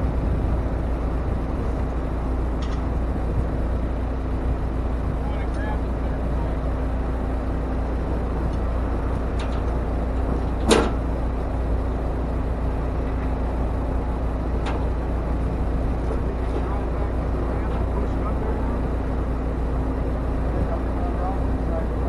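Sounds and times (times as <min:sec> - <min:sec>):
vehicle hum: 0:00.0 - 0:22.0.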